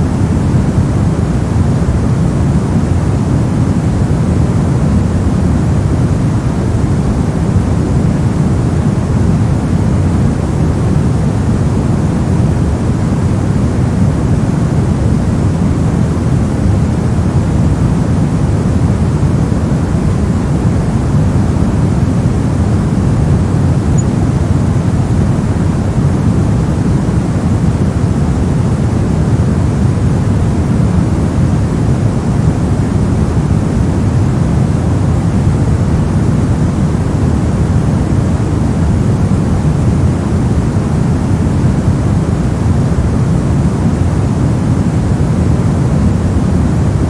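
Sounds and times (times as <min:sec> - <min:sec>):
deep white noise: 0:00.0 - 0:47.0.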